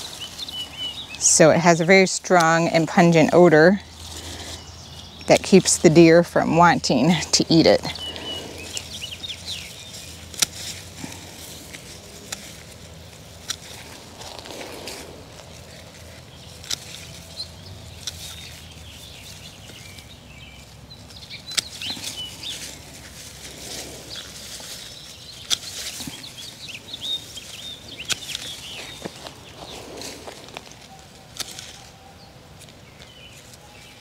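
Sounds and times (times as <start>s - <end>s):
hand pruners snipping stems: 0.0s - 34.0s
leaves and stems rustling: 0.0s - 34.0s.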